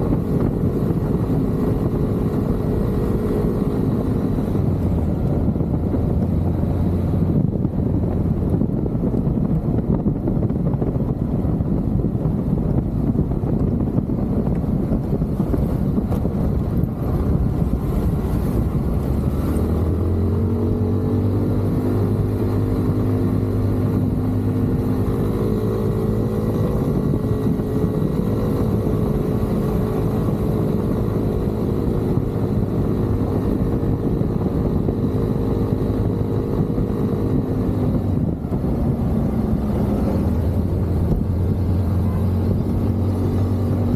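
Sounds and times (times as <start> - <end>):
motorcycle engine drone: 0.0 - 43.9
wind rumbling on microphone: 0.0 - 43.9.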